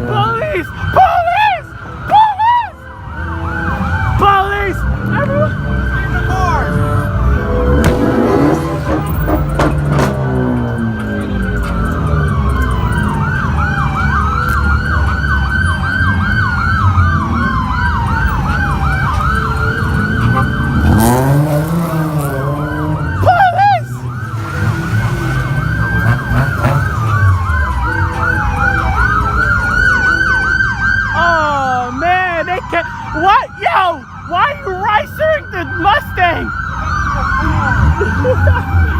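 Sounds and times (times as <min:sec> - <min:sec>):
car engines revving: 0:00.0 - 0:38.9
police siren wailing and yelping: 0:00.0 - 0:38.9.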